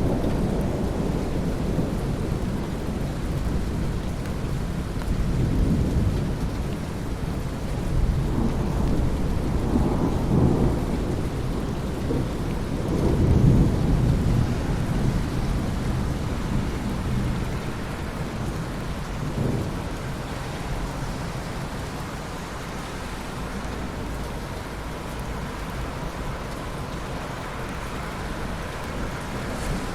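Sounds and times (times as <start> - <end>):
rolling thunder: 0.0 - 22.3, 28.1 - 29.9
steady rain: 0.0 - 29.9.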